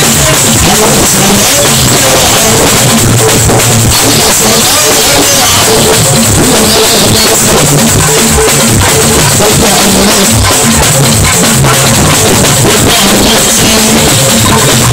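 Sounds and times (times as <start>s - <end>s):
busy continuous drumming: 0.0s - 14.9s
live band music: 0.0s - 14.9s.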